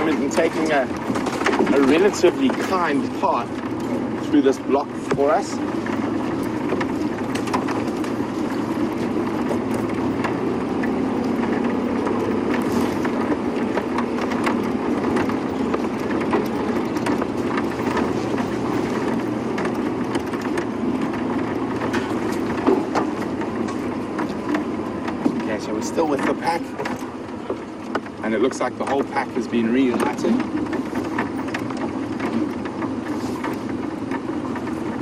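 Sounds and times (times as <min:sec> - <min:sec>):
vehicle engine driving off-road: 0:00.0 - 0:35.0
vehicle knocks and rattles: 0:00.0 - 0:35.0.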